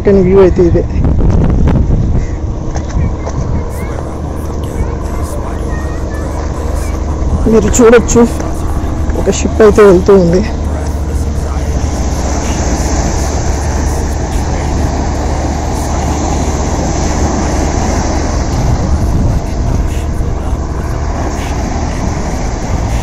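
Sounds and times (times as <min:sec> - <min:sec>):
deep rumble: 0:00.0 - 0:23.0
sea noise: 0:00.0 - 0:23.0
wind on microphone: 0:00.0 - 0:23.0.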